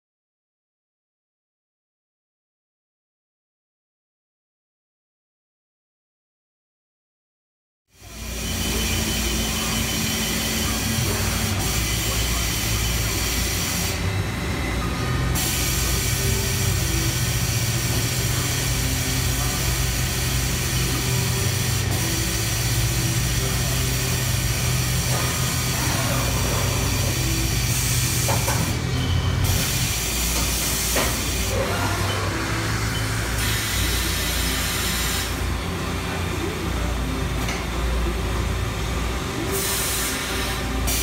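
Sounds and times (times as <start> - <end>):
cnc mill running: 7.9 - 41.0.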